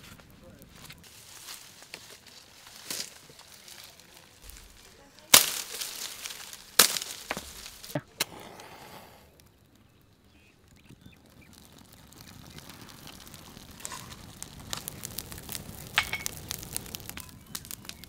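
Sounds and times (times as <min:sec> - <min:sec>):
dry palm fronds crackling: 0:00.0 - 0:18.0.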